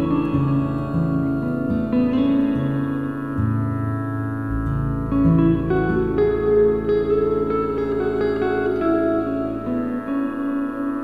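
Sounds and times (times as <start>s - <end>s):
layered held notes: 0.0s - 11.0s
steady low drone: 0.0s - 11.0s.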